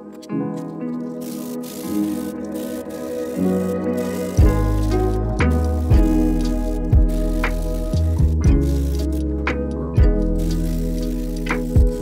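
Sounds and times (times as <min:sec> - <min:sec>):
background music with bass: 0:00.3 - 0:12.0.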